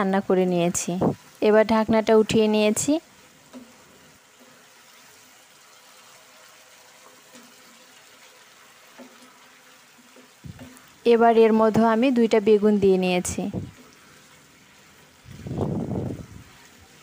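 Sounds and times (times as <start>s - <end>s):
curry sizzling in a pan: 0.0s - 17.0s.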